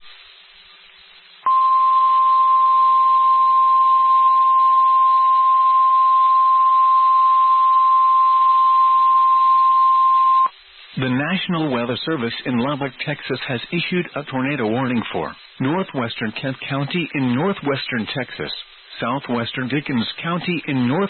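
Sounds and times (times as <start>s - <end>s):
faint radio hiss: 0.0s - 21.0s.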